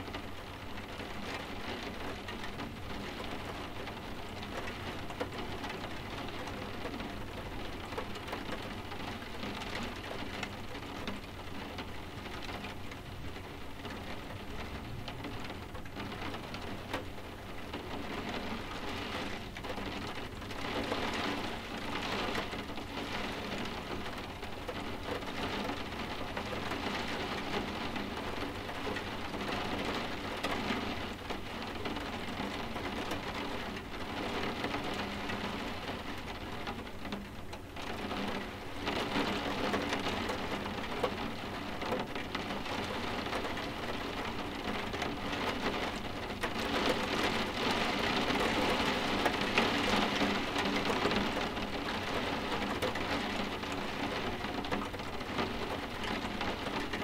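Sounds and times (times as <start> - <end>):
rain falling on windows: 0.0 - 57.0.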